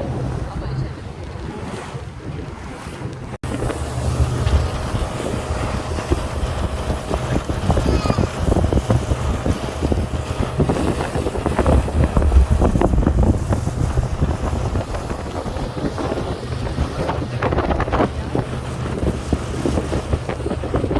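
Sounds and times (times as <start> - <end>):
boat engine humming: 0.0 - 20.9
wind buffeting microphone: 0.0 - 20.9.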